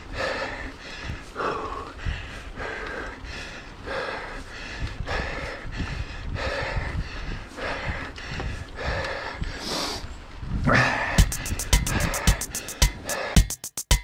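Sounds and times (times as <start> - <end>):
steady low rumble: 0.0 - 13.4
heavy rhythmic breathing: 0.0 - 14.0.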